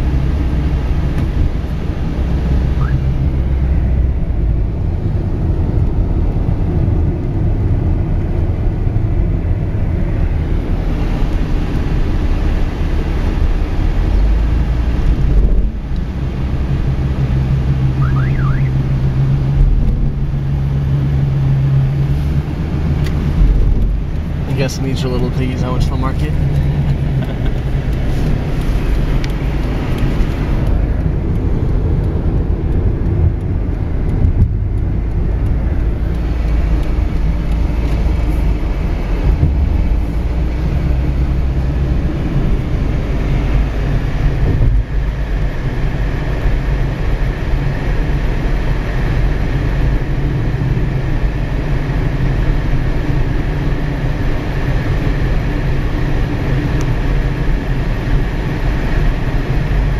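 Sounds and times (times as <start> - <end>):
car cabin road noise: 0.0 - 59.9.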